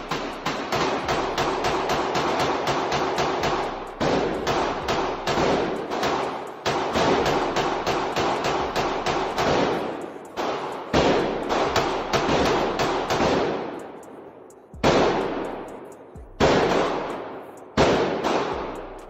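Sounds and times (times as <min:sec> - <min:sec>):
pistol shots echoing indoors: 0:00.0 - 0:19.0.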